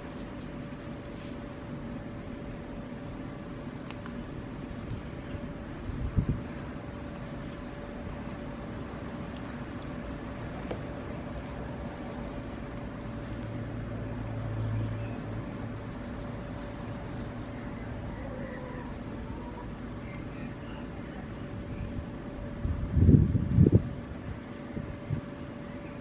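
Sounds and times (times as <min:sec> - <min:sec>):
faint steady hum: 0:00.0 - 0:26.0
outdoor background rumble: 0:00.0 - 0:26.0.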